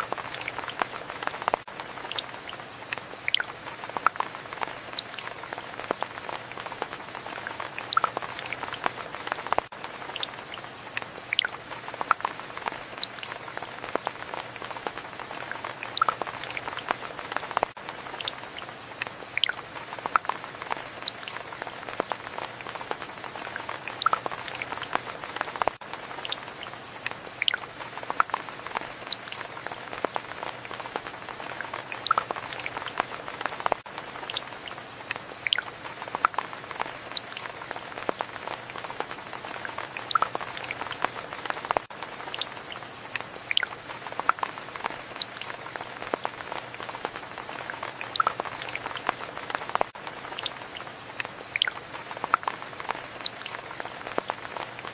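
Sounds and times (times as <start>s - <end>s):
rain pattering and dripping: 0.0s - 54.9s.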